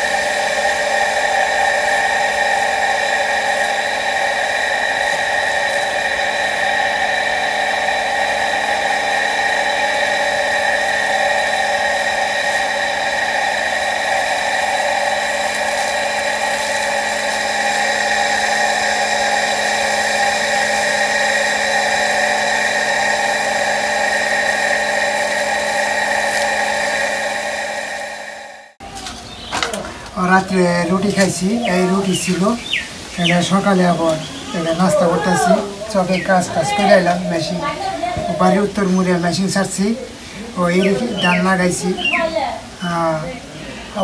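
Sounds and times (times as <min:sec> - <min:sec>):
water pump motor whining: 0:00.0 - 0:44.0.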